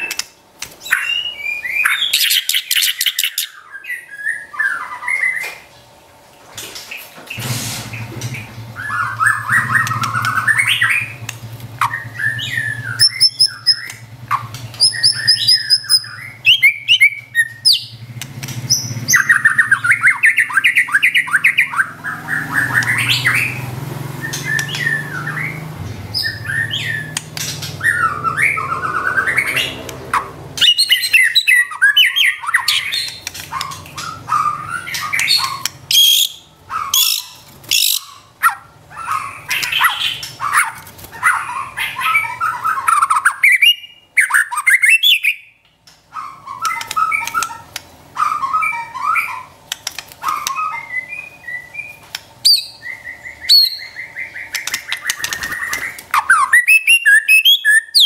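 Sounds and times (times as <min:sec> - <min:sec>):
bird singing: 0:00.8 - 0:05.9, 0:07.9 - 0:58.0
harsh rattling bird calls: 0:00.8 - 0:06.0, 0:06.8 - 0:58.0.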